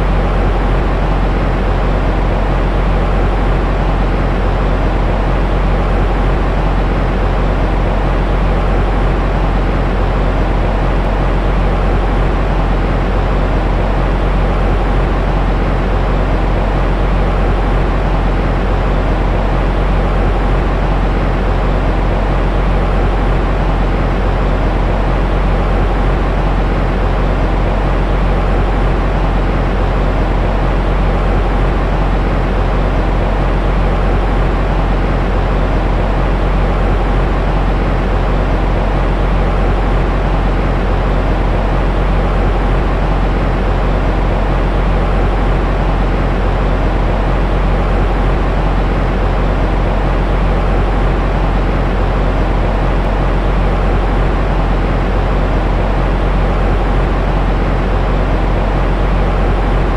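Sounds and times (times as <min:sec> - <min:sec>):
low rumbling white noise: 0:00.0 - 0:59.9.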